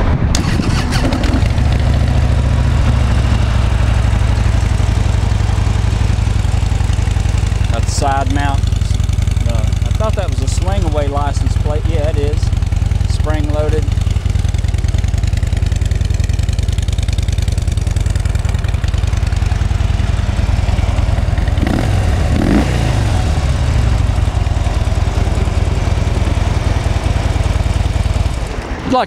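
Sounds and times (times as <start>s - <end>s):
motorcycle engine idling: 1.1s - 29.0s.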